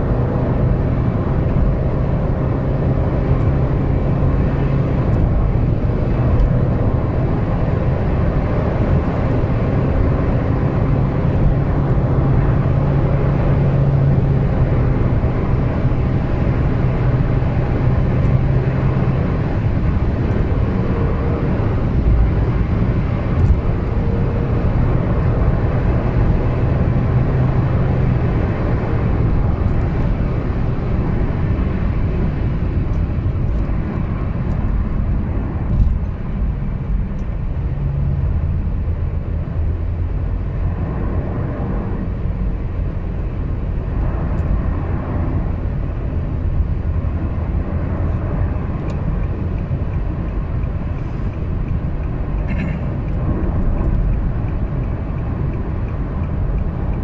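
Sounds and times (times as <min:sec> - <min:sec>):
car engine drone: 0:00.0 - 0:57.0
road and wind noise: 0:00.0 - 0:57.0.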